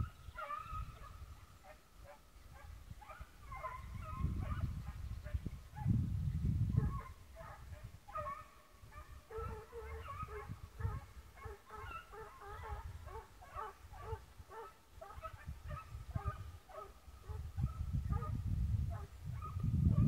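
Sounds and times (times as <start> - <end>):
hounds baying: 0.3 - 5.4, 6.8 - 18.3.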